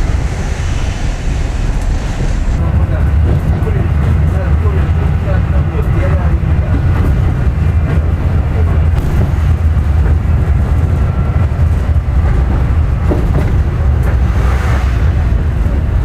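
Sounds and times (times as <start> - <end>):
tram wheels rumbling on rail: 0.0 - 16.0.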